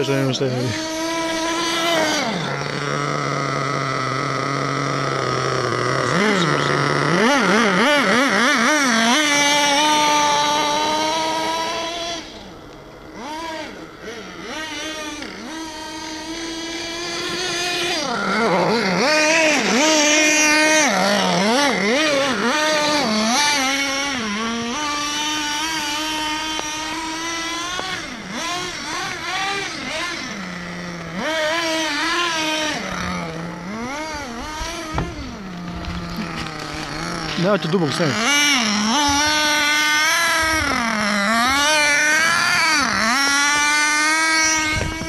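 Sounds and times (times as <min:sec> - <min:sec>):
rc car engine revving: 0:00.0 - 0:45.0.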